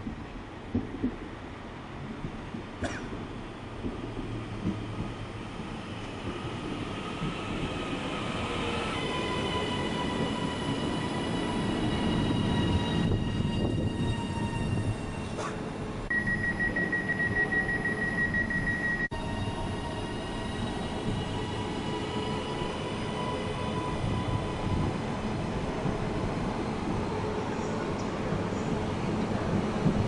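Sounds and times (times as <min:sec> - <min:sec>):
passenger train rumble: 0:00.0 - 0:30.0.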